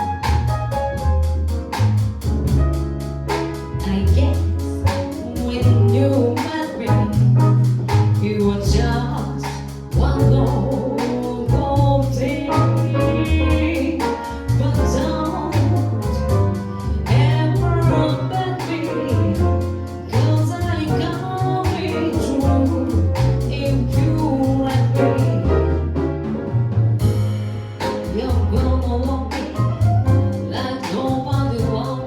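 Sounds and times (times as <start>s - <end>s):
bass line: 0.0s - 32.0s
woman singing jazz: 2.7s - 25.9s, 27.0s - 32.0s.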